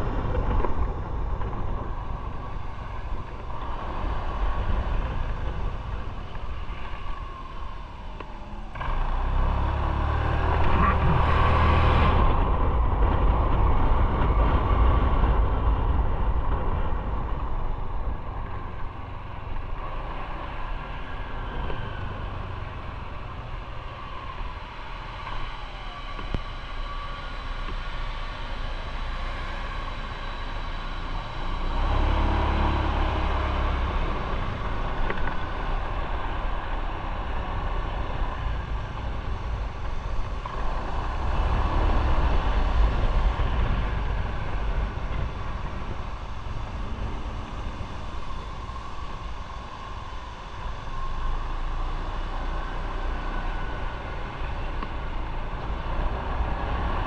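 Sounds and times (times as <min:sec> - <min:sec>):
motorcycle engine: 0:00.0 - 0:57.0
road rumble: 0:00.0 - 0:57.0.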